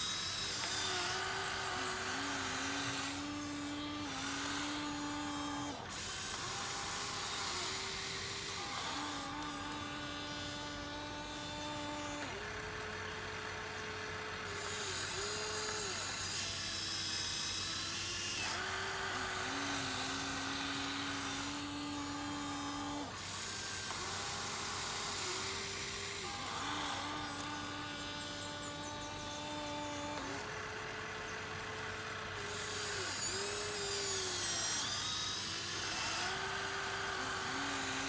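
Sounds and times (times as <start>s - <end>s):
small electric motors whining: 0.0s - 38.0s.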